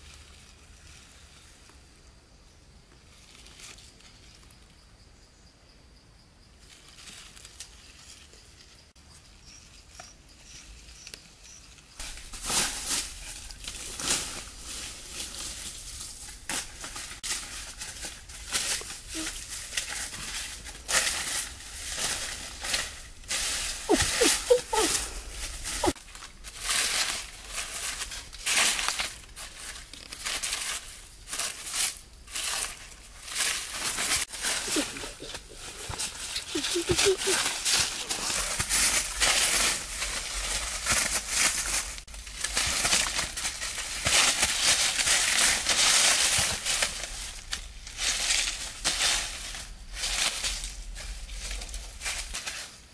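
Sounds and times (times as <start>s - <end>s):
footsteps in dry leaves: 9.3s - 52.9s
stick prodding through leaves: 9.4s - 52.9s.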